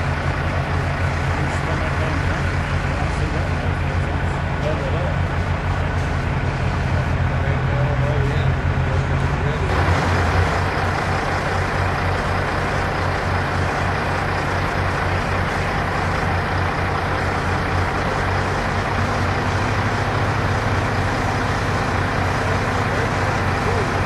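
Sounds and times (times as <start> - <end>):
heavy diesel engines droning: 0.0 - 24.0.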